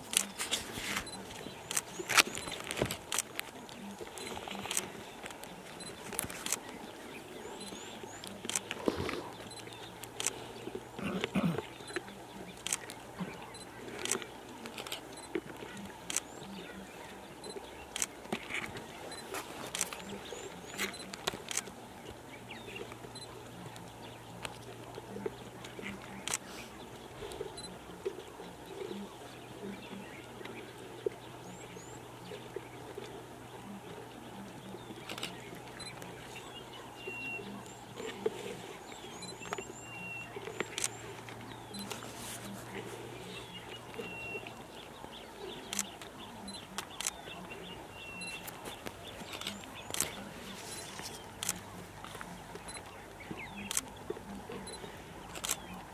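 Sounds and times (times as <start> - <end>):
lions chewing and crunching bone: 0.0 - 55.9
small birds chirping: 0.0 - 55.9.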